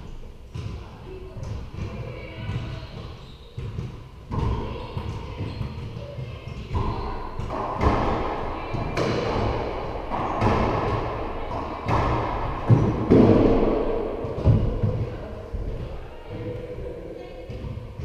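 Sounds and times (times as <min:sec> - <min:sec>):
racquetball hits echoing: 0:01.4 - 0:16.7.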